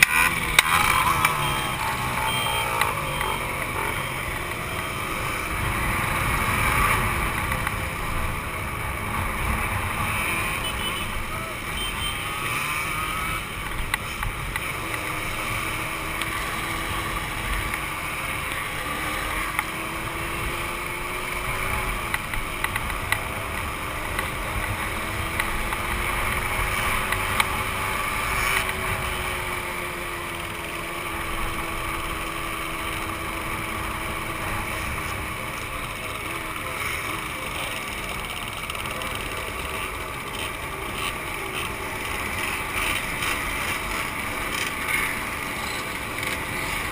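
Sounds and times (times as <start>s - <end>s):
two-stroke motorcycle engines: 0.0s - 46.9s.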